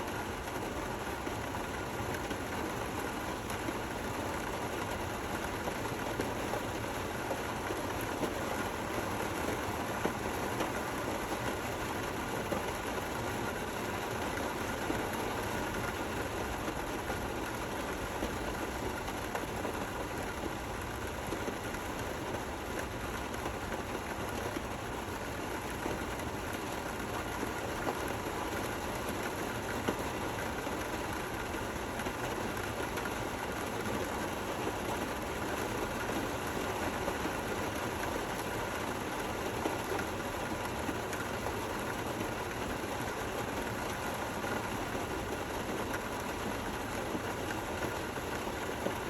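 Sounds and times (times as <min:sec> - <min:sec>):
gentle rain falling: 0:00.0 - 0:49.0.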